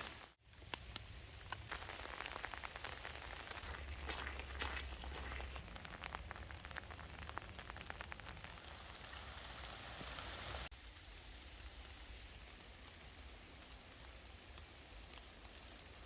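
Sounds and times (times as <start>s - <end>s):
hiss of rain: 0.0s - 16.0s
raindrops ticking: 0.5s - 16.0s.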